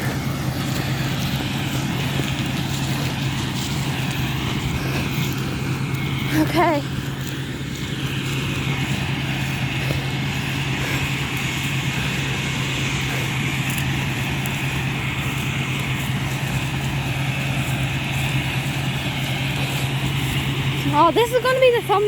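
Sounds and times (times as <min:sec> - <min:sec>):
combine harvester engine drone: 0:00.0 - 0:22.0
threshing machinery noise: 0:00.0 - 0:22.0.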